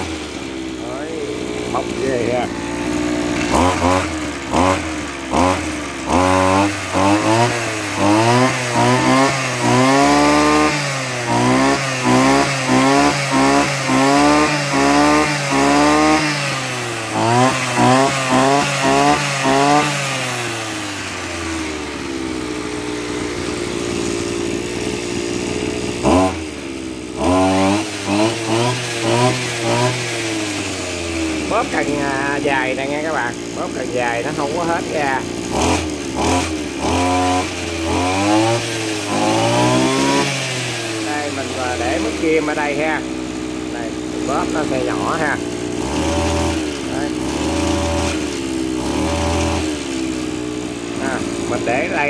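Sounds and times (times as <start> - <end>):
brush cutter engine revving: 0.0 - 52.0.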